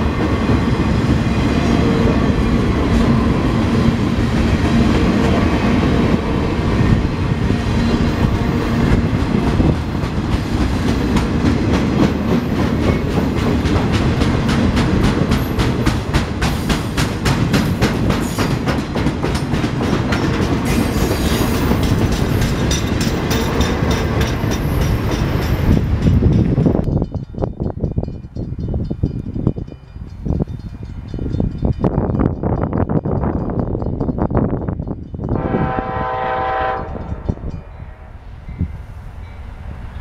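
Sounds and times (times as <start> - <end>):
wheels clickety-clack on rail joints: 0.0 - 35.7
low rumble of train wheels: 0.0 - 40.0.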